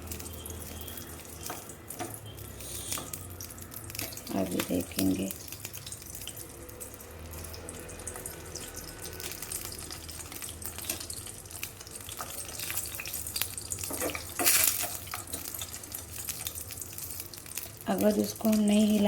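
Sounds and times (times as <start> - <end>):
melting wax crackling and sizzling: 0.0 - 19.0.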